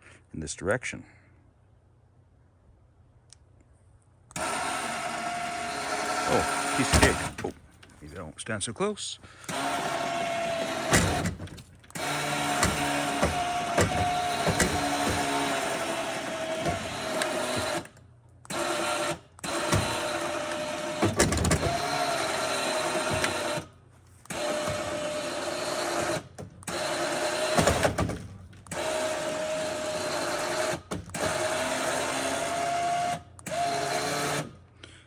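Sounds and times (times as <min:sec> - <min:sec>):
electric winch motor whining: 0:04.3 - 0:08.2, 0:09.4 - 0:34.6.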